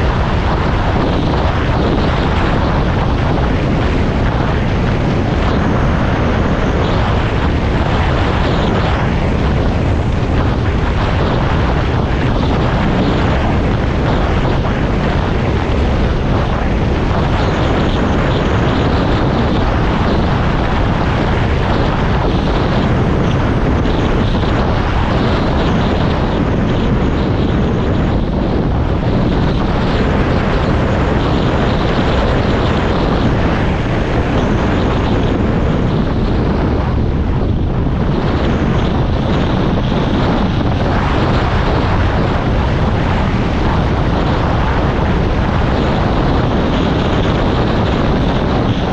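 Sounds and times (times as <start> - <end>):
vehicle running with rushing noise: 0.0 - 48.9.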